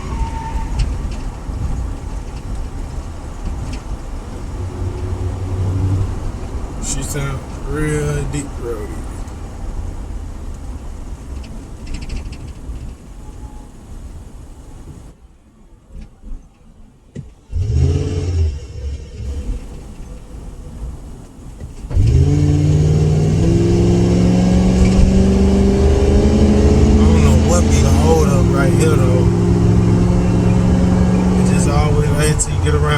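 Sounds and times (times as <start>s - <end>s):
car exhaust rumbling: 0.0s - 15.1s, 17.3s - 32.9s.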